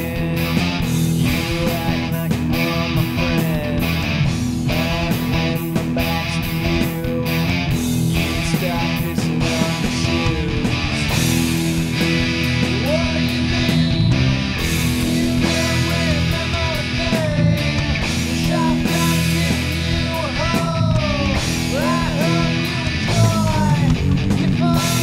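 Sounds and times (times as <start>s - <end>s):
rock music with electric guitar: 0.0s - 25.0s.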